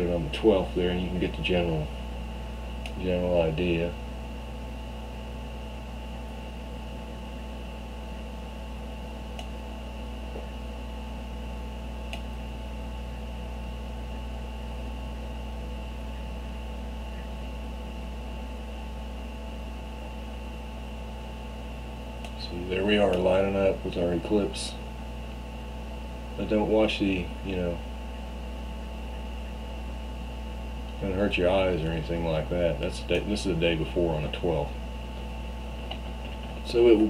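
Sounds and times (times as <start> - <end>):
steady hum of held tones: 0.0 - 37.0.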